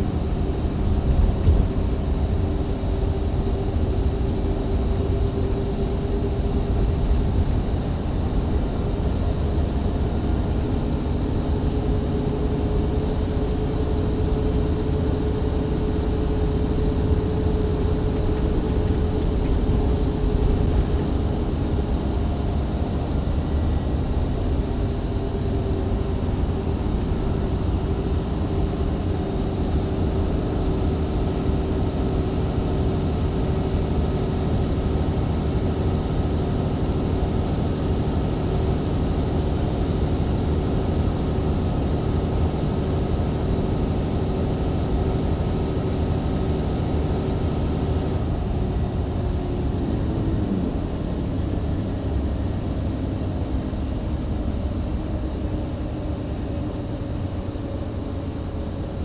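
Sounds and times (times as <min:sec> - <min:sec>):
bus engine drone: 0:00.0 - 0:59.0
road noise: 0:00.0 - 0:59.0.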